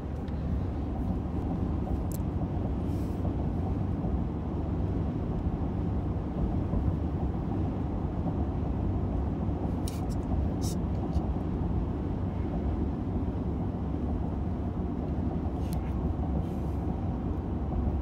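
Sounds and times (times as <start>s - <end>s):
car road and tyre rumble: 0.0s - 18.0s.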